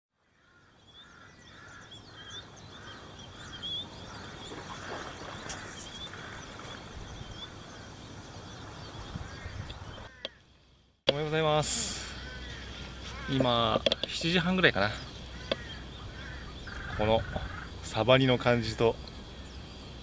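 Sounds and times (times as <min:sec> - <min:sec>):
lower bird call: 0:00.3 - 0:10.6, 0:11.6 - 0:18.0
birds chirping and whistling: 0:00.8 - 0:10.3, 0:11.8 - 0:20.0.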